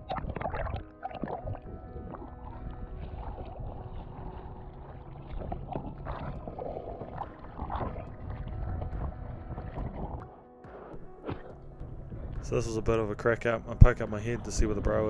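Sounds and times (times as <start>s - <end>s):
faint background music: 0.0s - 15.0s
water sloshing and rumbling: 0.0s - 15.0s
water splashes: 0.0s - 15.0s.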